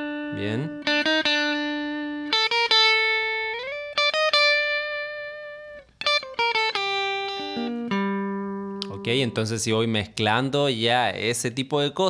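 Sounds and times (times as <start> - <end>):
electric guitar melody: 0.0 - 10.1.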